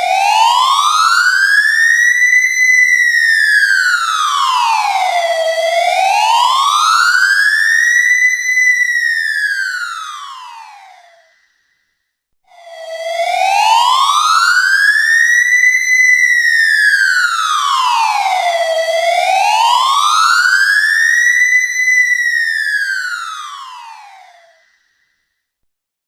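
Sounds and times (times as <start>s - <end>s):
wailing siren: 0.0s - 11.3s, 12.5s - 24.7s.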